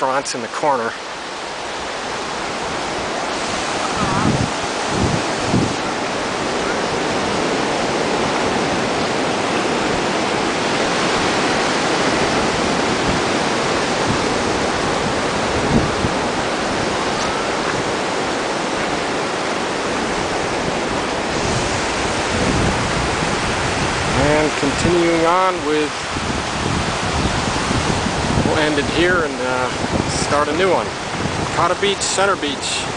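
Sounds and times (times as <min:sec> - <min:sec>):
surf breaking on beach: 0:00.0 - 0:32.9.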